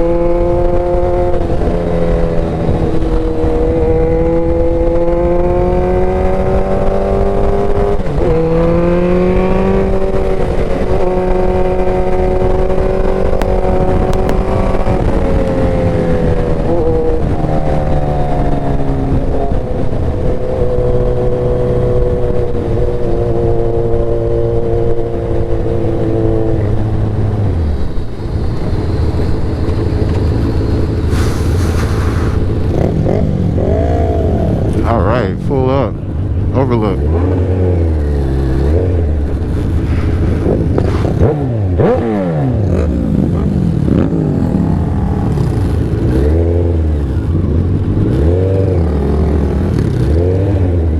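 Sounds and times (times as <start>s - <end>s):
motorcycle engine running: 0.0s - 31.1s, 31.8s - 50.9s.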